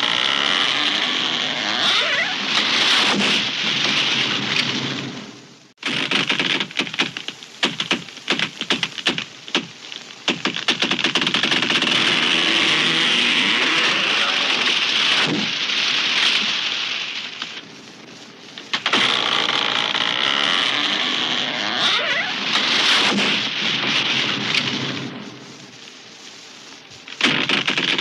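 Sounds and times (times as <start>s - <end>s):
splintering branches and wood: 0.0s - 4.8s, 5.8s - 28.0s
tree crashing down: 0.0s - 17.7s, 18.6s - 25.3s.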